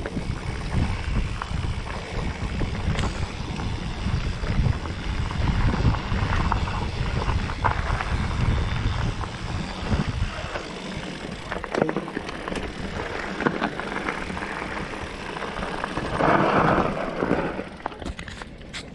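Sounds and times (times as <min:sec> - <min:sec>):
wind buffeting microphone: 0:00.0 - 0:18.4
bike clicks and knocks: 0:00.0 - 0:18.9
bike tyres on dirt: 0:00.0 - 0:18.9.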